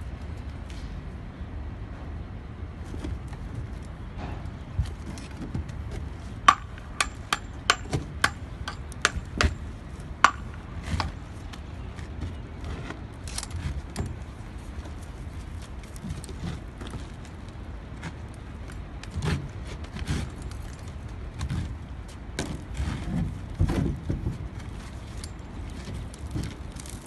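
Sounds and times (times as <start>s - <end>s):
low street noise: 0.0s - 27.0s.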